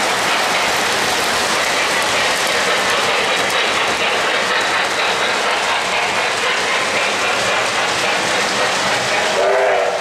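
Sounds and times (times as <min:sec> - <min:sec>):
model train wheels rolling on rails: 0:00.0 - 0:10.0.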